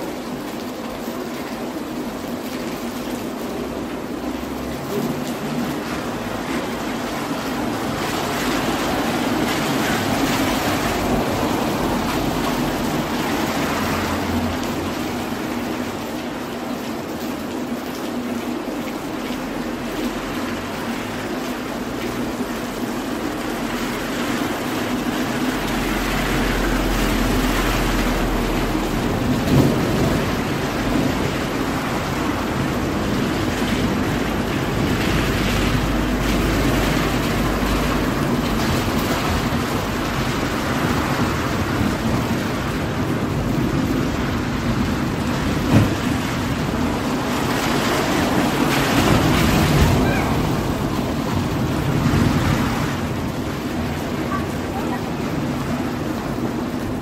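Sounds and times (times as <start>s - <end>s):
rain falling on street: 0.0s - 57.0s.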